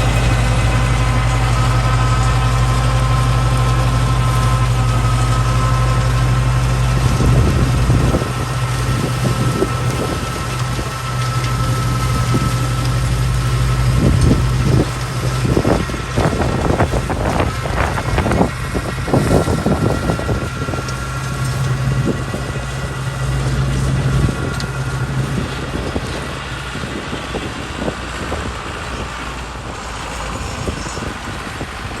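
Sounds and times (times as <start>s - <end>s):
flail mower rough wash: 0.0s - 32.0s
tractor engine hum: 0.0s - 32.0s.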